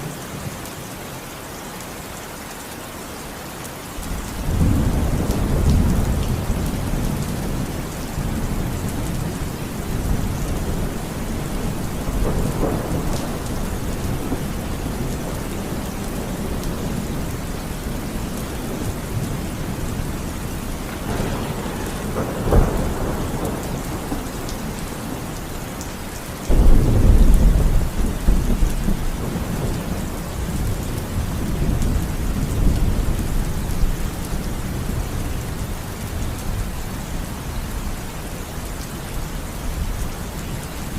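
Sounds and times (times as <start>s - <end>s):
steady rain: 0.0s - 40.9s
thunder rumbling: 4.0s - 37.6s.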